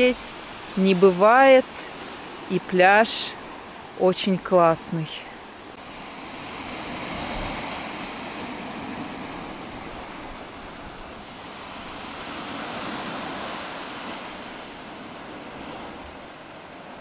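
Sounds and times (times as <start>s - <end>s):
small waves breaking on sand: 0.0s - 17.0s.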